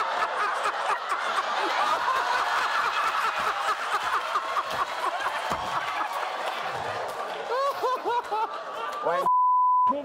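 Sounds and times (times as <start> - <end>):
audience laughing: 0.0 - 9.3.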